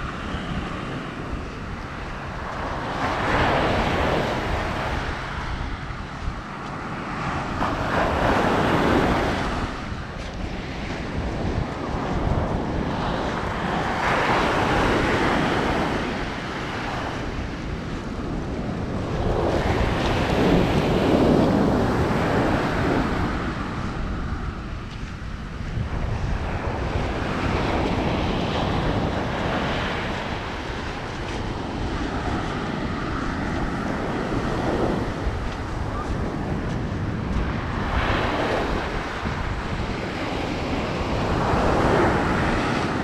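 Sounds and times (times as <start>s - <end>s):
ocean surf washing up beach: 0.0s - 43.0s
wind rumbling on microphone: 0.0s - 43.0s.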